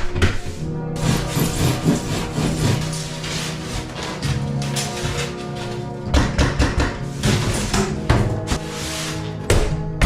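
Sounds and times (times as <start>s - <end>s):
background music with held tones: 0.0s - 10.0s.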